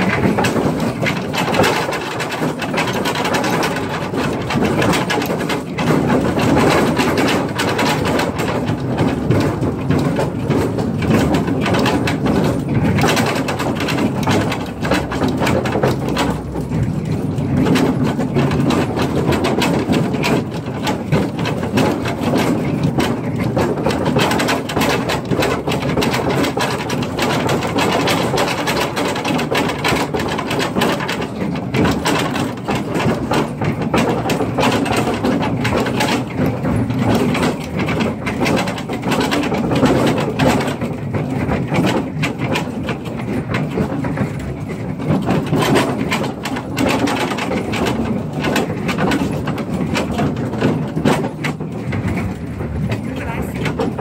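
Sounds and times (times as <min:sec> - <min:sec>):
train cars rattling over rails: 0:00.0 - 0:54.0.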